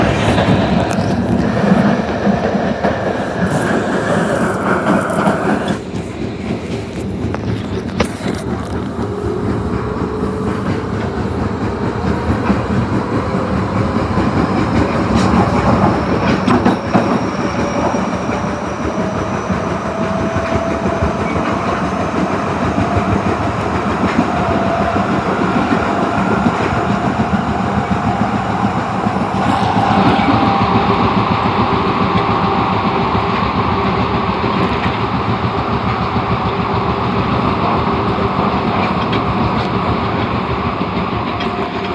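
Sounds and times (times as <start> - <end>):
traction motor whine: 0.0 - 37.4
train wheels clattering on rails: 0.0 - 41.9.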